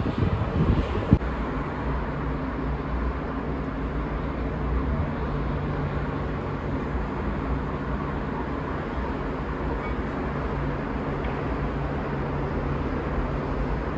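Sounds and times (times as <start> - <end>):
road traffic noise: 0.0 - 13.9.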